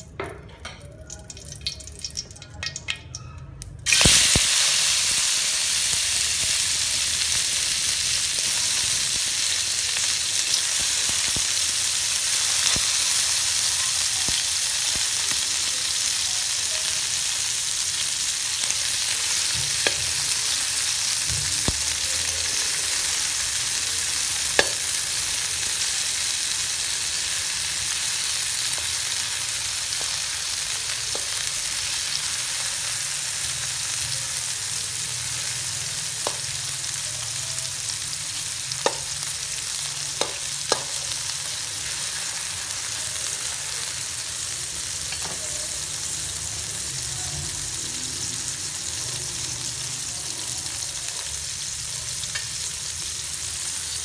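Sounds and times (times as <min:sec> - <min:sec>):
food sizzling in hot oil: 0:01.0 - 0:54.0.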